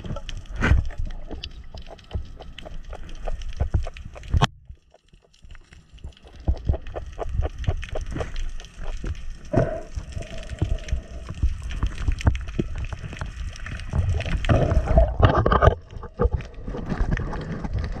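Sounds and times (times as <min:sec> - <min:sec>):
water gurgling and sloshing: 0:00.0 - 0:18.0.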